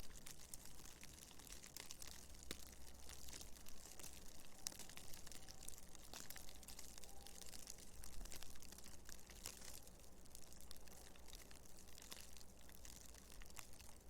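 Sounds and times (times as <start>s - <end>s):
small crackling ticks: 0.0s - 14.0s.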